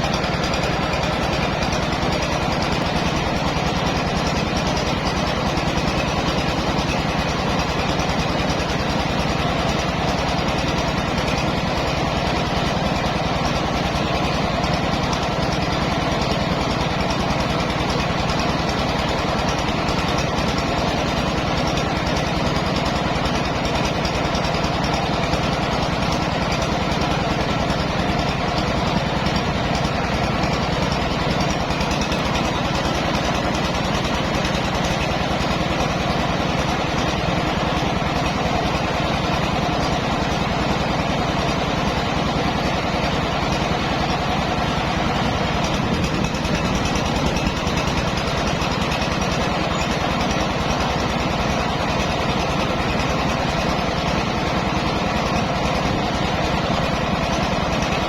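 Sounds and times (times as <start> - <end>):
rice mill engine running: 0.0 - 58.0.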